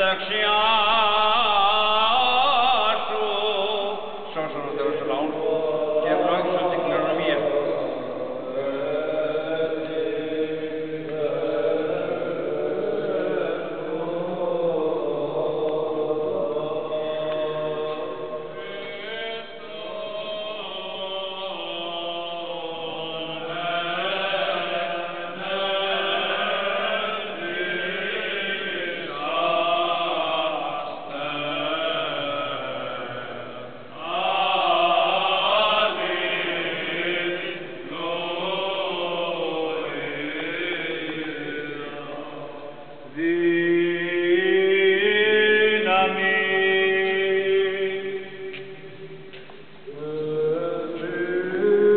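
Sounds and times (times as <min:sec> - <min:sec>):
liturgical chanting: 0:00.0 - 0:51.9.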